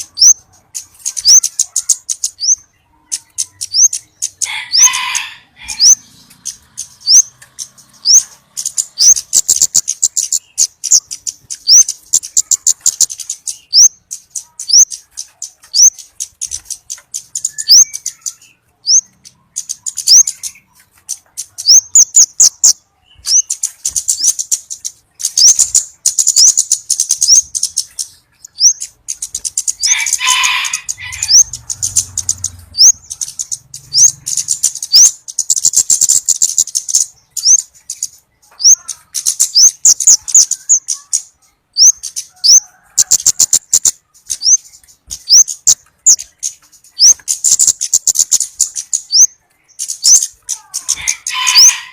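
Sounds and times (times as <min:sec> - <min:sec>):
lower bird chirping burst: 0:00.0 - 0:30.1, 0:30.8 - 0:42.6, 0:43.3 - 0:50.5
bird calls with high ticks: 0:00.0 - 0:51.9.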